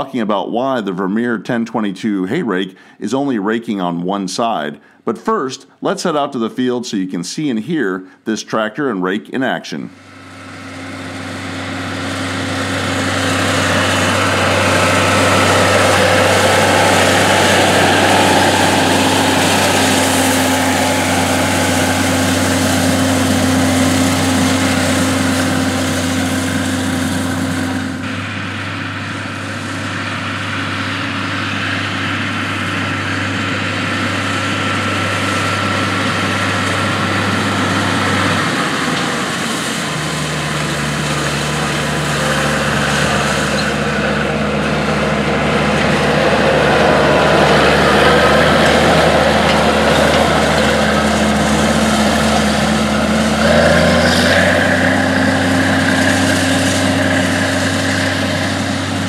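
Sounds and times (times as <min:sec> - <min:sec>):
tractor engine running steadily: 0:09.9 - 0:59.0.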